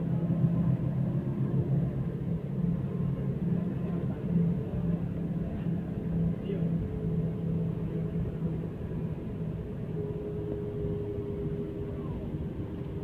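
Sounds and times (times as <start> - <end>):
bus engine and road drone: 0.0 - 13.0.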